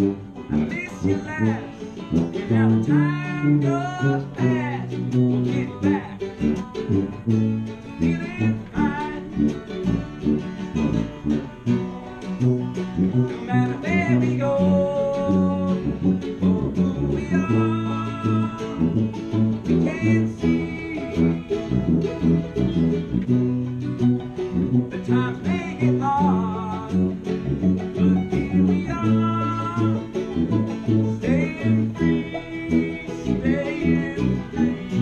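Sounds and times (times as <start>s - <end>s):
acoustic guitar strumming: 0.0s - 35.0s
sliding melody line: 0.0s - 35.0s
tuba bass notes: 0.0s - 35.0s.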